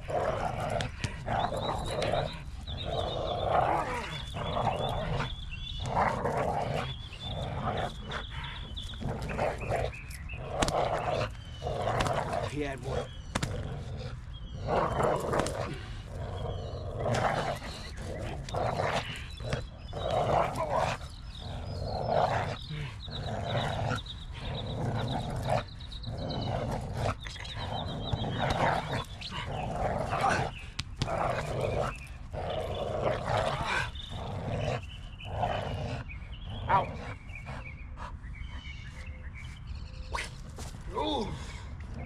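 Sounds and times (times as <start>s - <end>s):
dog growling: 0.0s - 37.8s.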